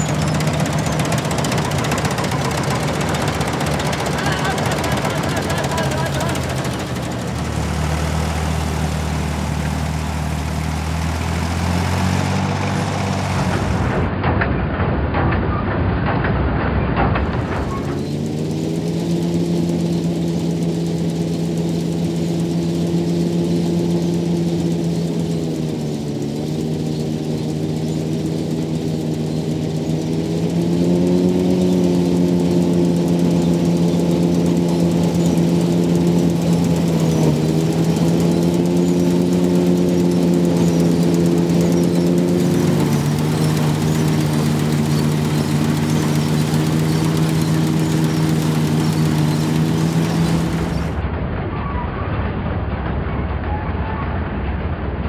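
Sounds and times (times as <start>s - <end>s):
combine harvester threshing: 0.0s - 14.3s, 16.8s - 51.0s
diesel tractor engine under load: 0.0s - 51.2s.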